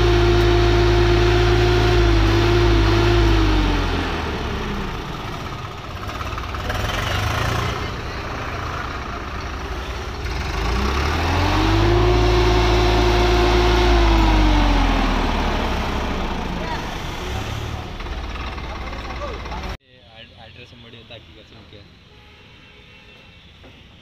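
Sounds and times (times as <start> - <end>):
tractor diesel engine revving: 0.0 - 19.8.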